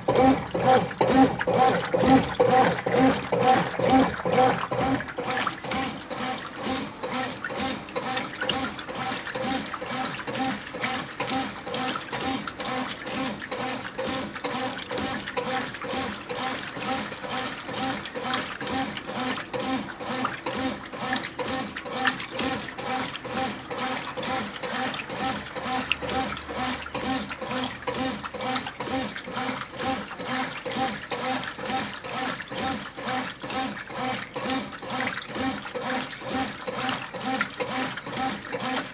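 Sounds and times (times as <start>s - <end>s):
washing machine sloshing water: 0.0s - 38.9s.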